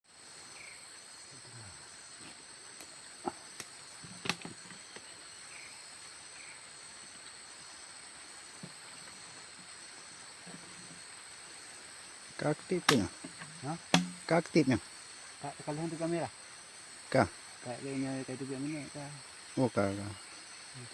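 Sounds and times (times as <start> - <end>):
insects chorus: 0.0 - 20.9.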